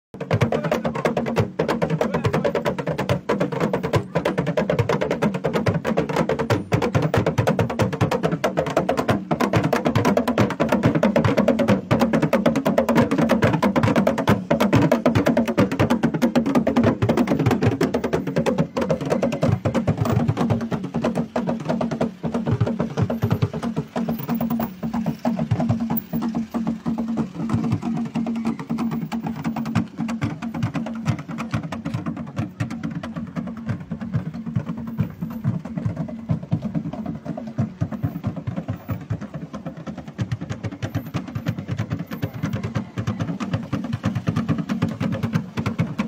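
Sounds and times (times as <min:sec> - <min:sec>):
drums: 0:00.1 - 0:46.0
fast percussion music: 0:00.1 - 0:46.0.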